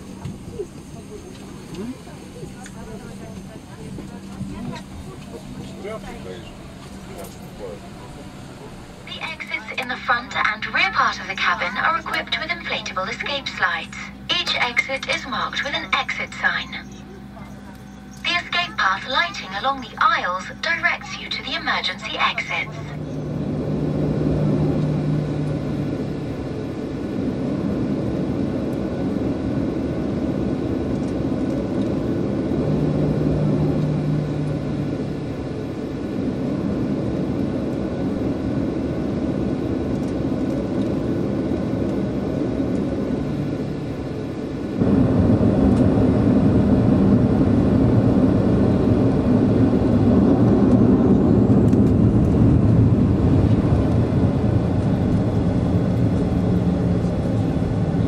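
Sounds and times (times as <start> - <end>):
jet engines rumbling: 0.0 - 58.0
low hum: 0.0 - 58.0.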